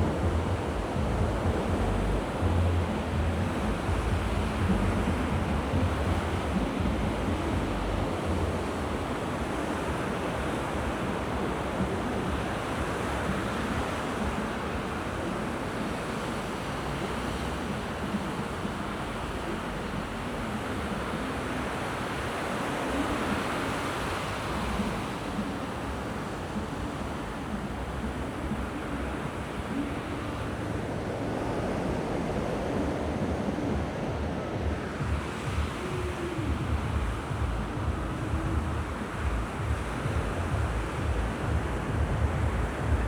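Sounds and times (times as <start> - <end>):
sea waves washing onto shore: 0.0 - 43.0
wind rumble on microphone: 0.0 - 43.0.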